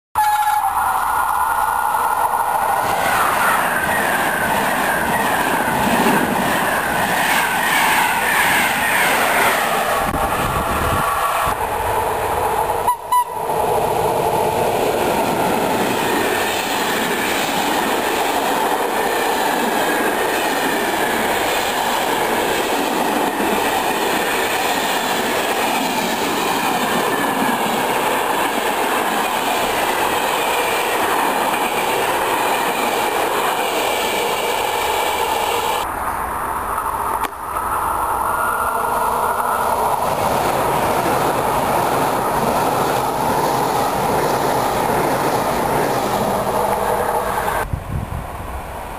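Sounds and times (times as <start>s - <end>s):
electric train whine: 0.2s - 48.9s.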